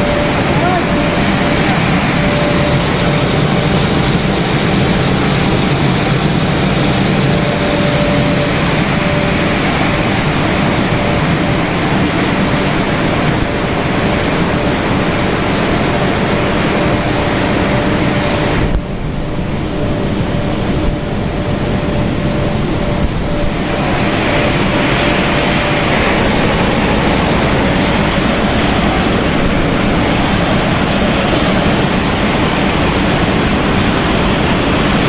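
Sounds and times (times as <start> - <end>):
constant hum tone: 0.0 - 35.0
machinery running: 0.0 - 35.0.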